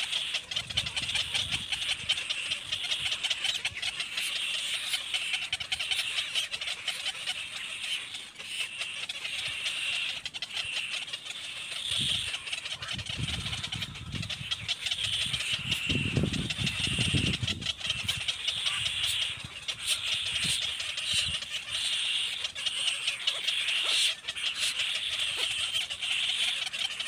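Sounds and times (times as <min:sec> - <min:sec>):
baby birds chirping: 0:00.0 - 0:27.0.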